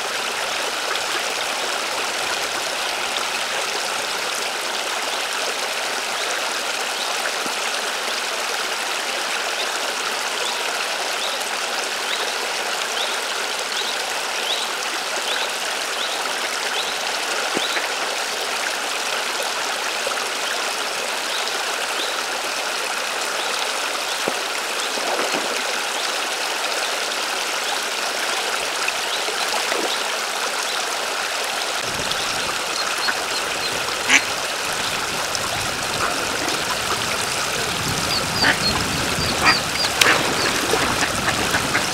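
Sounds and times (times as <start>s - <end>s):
water splashing and trickling: 0.0s - 10.5s, 12.7s - 41.9s.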